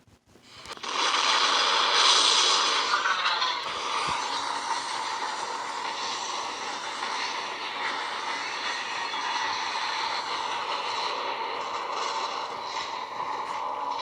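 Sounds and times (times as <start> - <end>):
train running on rails: 0.6 - 14.0.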